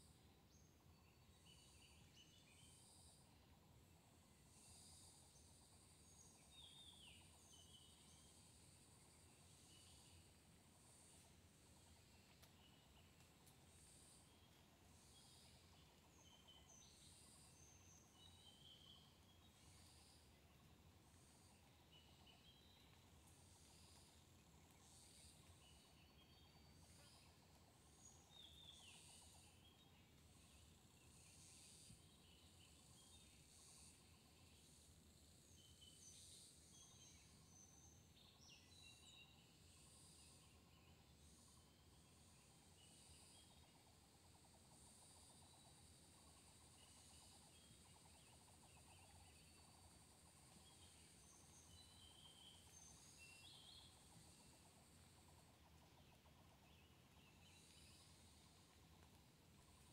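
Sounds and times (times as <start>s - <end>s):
low background noise: 0.0s - 59.9s
small birds chirping: 0.0s - 59.9s.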